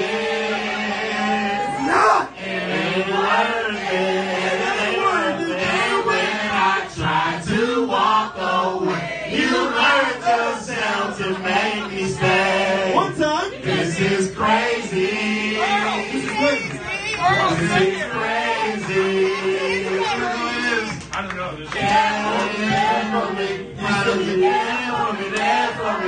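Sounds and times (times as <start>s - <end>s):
voices chanting and singing: 0.0s - 26.0s.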